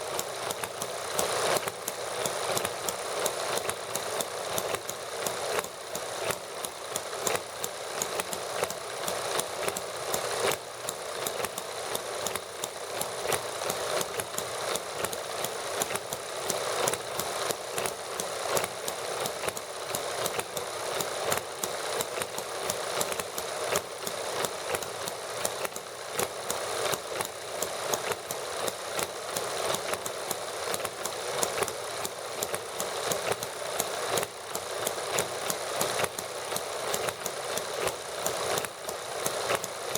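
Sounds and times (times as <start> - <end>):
small model engines clattering: 0.0 - 39.9.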